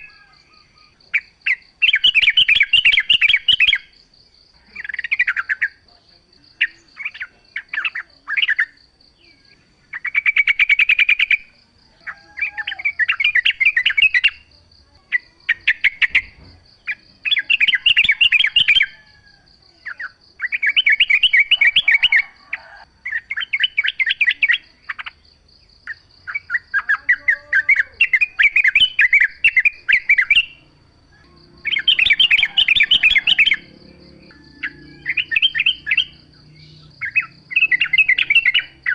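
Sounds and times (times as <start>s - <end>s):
bulbuls chattering song: 0.0s - 38.9s.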